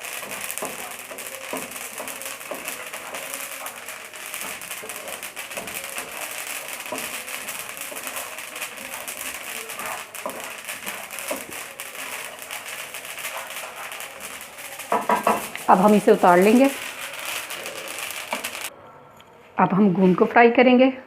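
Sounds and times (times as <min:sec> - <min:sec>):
seeds crackling in a hot pan: 0:00.0 - 0:18.7.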